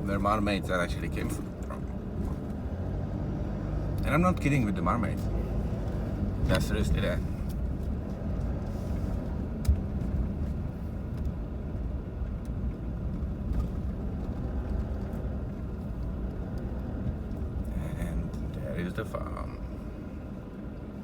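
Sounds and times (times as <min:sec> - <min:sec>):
car driving rumble: 0:00.0 - 0:21.0.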